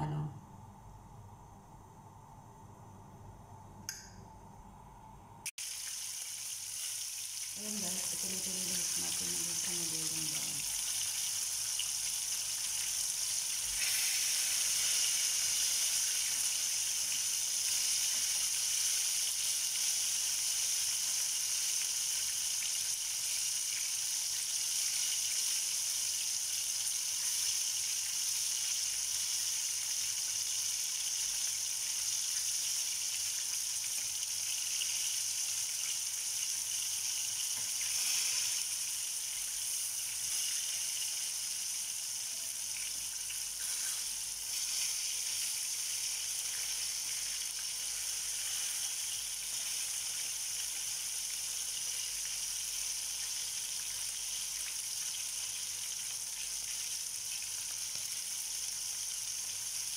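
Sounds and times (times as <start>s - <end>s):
chicken wings sizzling in oil: 5.6s - 59.9s.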